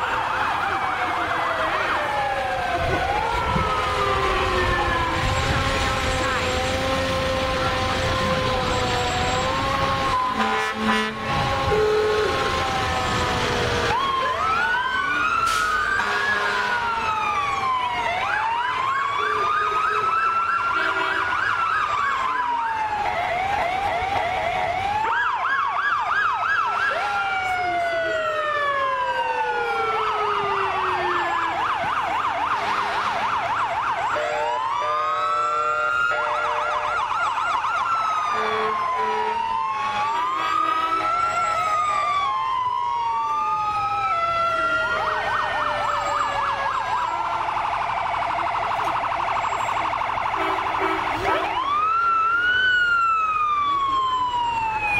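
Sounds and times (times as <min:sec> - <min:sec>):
fire truck sirens wailing and yelping: 0:00.0 - 0:54.9.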